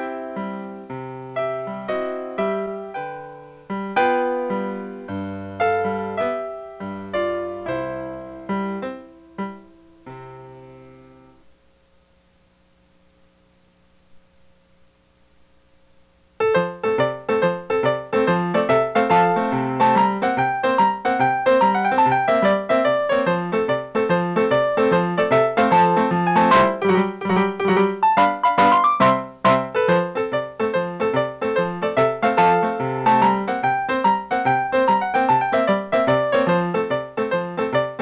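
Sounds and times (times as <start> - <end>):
solo piano music: 0.0 - 11.5, 16.4 - 38.0.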